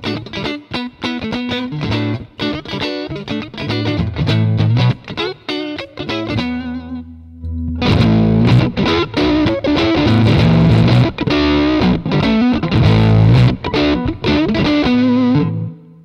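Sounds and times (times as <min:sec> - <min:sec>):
fuzzed electric guitar: 0:00.0 - 0:16.0.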